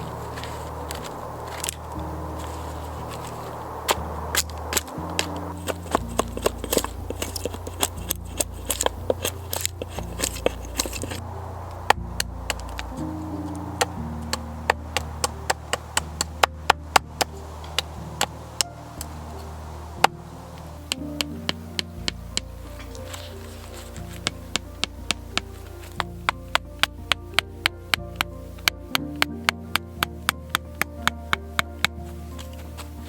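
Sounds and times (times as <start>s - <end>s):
soft music of low held notes: 0.0s - 33.0s
wood fire crackling and popping: 0.0s - 33.0s.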